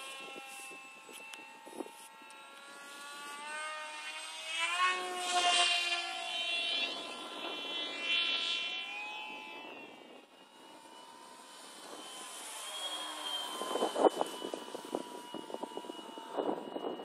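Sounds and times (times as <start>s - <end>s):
model plane motor whine: 0.0s - 17.0s.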